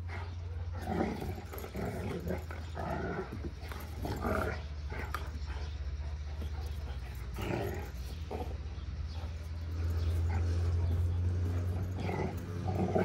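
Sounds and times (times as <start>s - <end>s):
puppies growling and whimpering: 0.0s - 13.0s.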